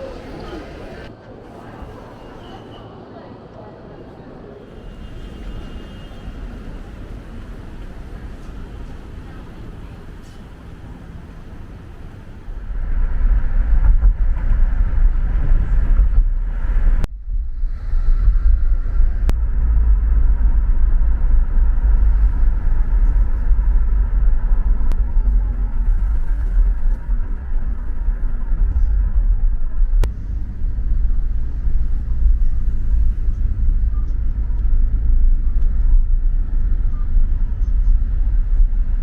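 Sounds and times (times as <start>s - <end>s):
moving vehicle rumble: 0.0s - 39.0s.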